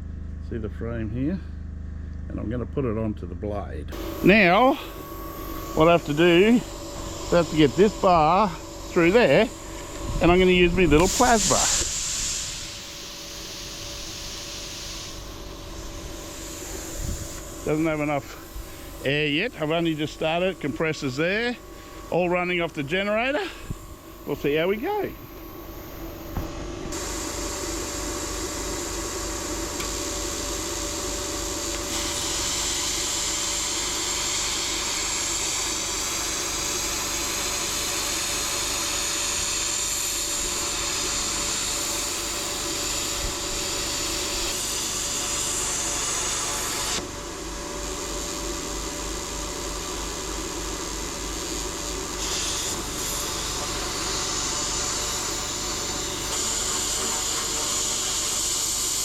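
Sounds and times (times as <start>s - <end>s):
generator humming: 0.0s - 59.0s
plasma cutter hissing: 3.9s - 59.0s.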